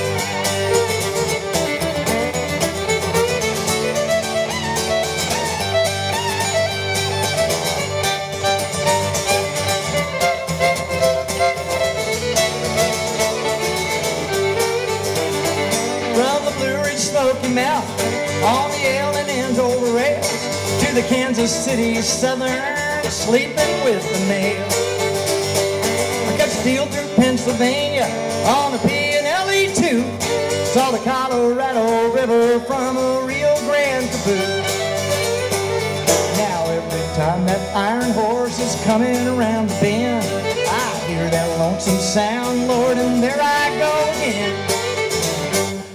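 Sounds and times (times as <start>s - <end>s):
fiddle with sliding notes: 0.0s - 45.9s
strummed acoustic guitar: 0.0s - 45.9s.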